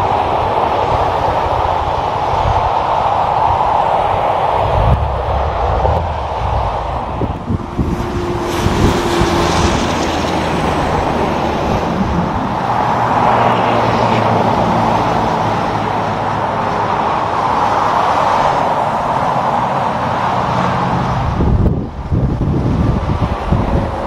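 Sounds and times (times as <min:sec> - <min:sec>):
highway traffic tyre noise: 0:00.0 - 0:24.0
low engine drone: 0:00.0 - 0:24.0.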